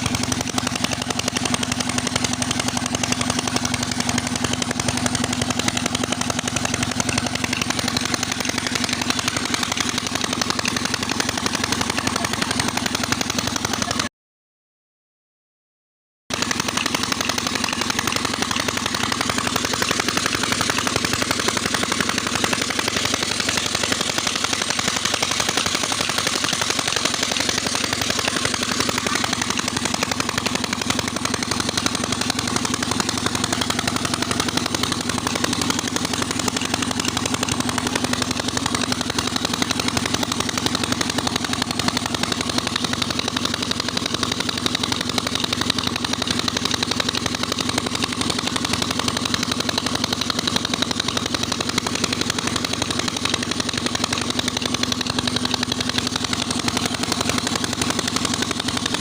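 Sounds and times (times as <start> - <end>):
diesel engine driving pump: 0.0 - 14.1, 16.3 - 59.0.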